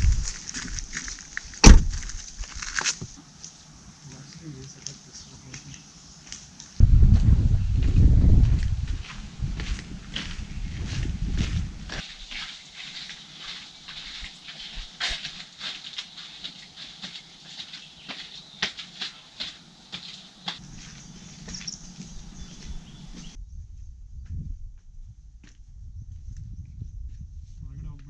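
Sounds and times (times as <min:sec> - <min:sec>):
footsteps scuffing and crunching: 0:00.0 - 0:23.4.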